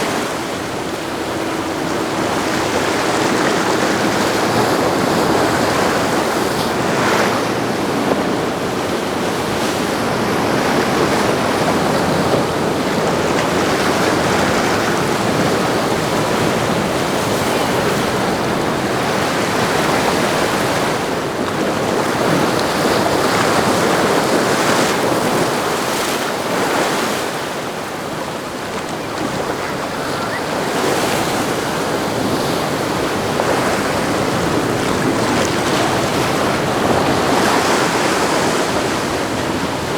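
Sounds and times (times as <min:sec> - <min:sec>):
waves and surf washing: 0:00.0 - 0:39.9.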